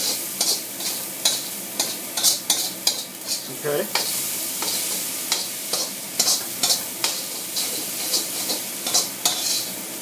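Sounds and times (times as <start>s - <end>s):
spatula scraping a wok: 0.0s - 9.8s
rice sizzling in a wok: 0.0s - 10.0s.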